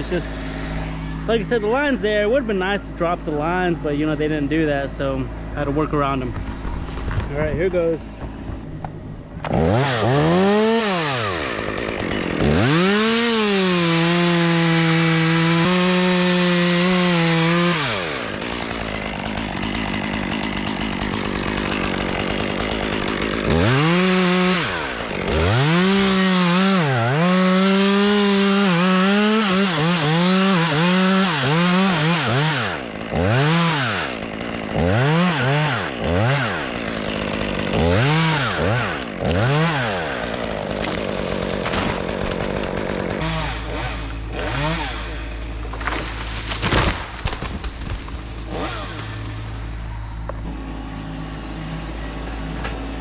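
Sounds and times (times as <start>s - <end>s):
chainsaw revving and cutting: 0.0s - 5.5s, 9.4s - 53.0s.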